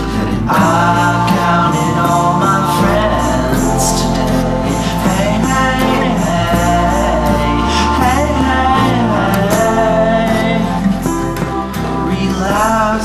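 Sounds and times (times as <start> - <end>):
pop song with singing: 0.0 - 13.0.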